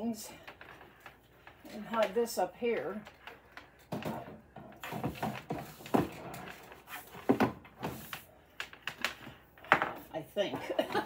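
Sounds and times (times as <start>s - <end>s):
plastic cables knocking and rustling: 0.0s - 11.0s.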